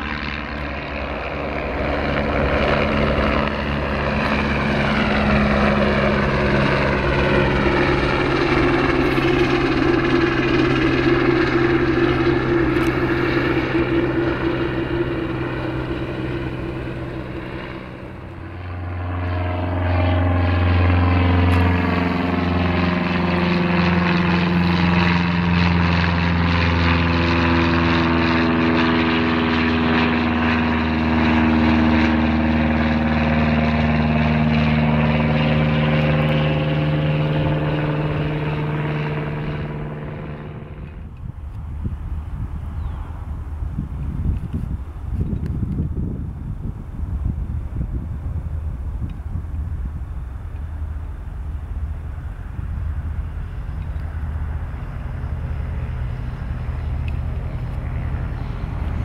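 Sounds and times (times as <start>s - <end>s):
helicopter flying past: 0.0s - 59.0s
propeller plane engine drone: 0.0s - 59.0s.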